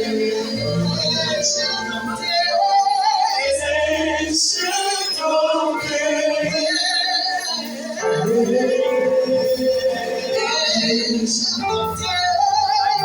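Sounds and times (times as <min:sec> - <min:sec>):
keyboard accompaniment: 0:00.0 - 0:13.0.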